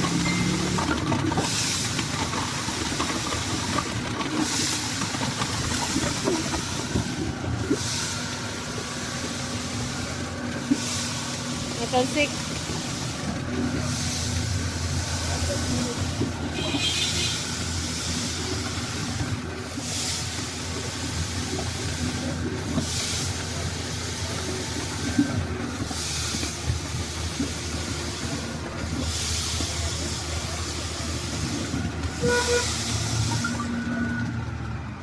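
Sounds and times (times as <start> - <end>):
concrete pouring machinery humming: 0.0 - 35.0.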